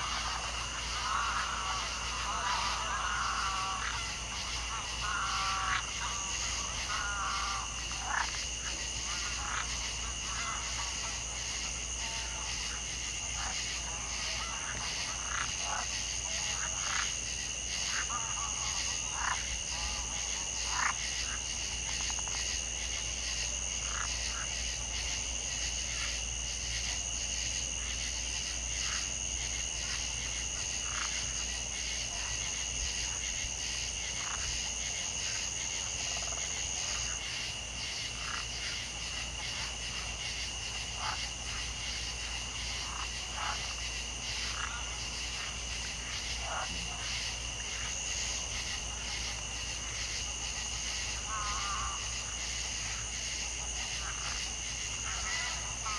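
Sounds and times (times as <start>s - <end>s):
frogs trilling: 0.0s - 55.9s
short frog calls: 0.0s - 55.9s.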